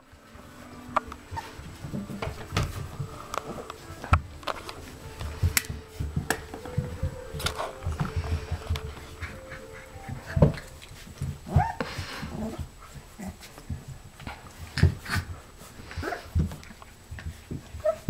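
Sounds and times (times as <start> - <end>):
puppies scuffling: 0.0 - 18.0
puppies whining: 0.1 - 18.0.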